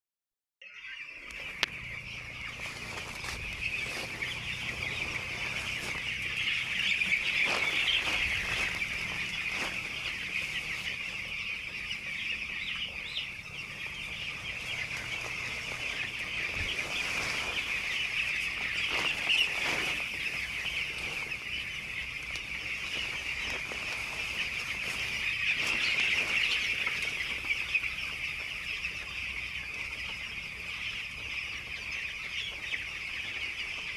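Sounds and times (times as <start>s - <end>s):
chicks peeping: 0.7s - 33.9s.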